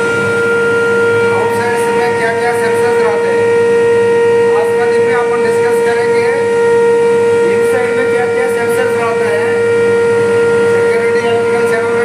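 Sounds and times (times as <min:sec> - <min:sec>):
high-pitched electrical hum: 0:00.0 - 0:12.0.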